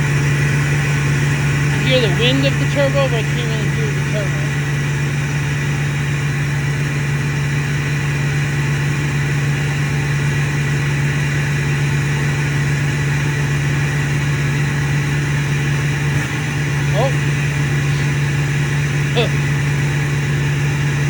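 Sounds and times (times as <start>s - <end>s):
diesel engine idling: 0.0s - 21.0s
turbo whine: 0.0s - 21.0s.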